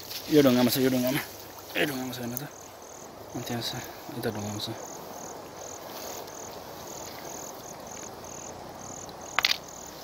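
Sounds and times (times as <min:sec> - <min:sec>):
insect chirping: 0:00.0 - 0:10.0
shallow stream rushing: 0:00.0 - 0:10.0.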